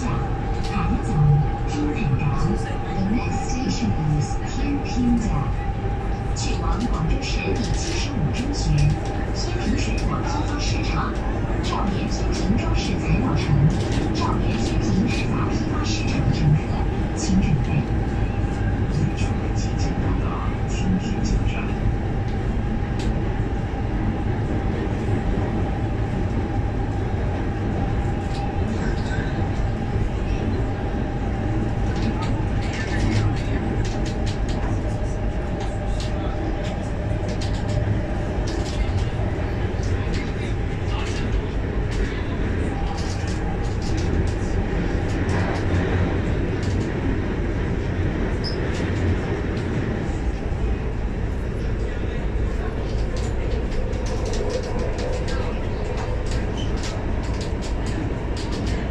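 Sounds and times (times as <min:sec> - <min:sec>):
train car rumble: 0:00.0 - 0:58.9.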